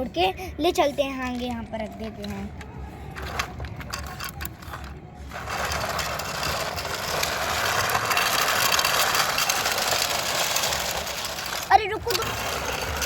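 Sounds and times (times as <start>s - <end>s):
toy tractor rolling and whirring: 1.0s - 13.0s.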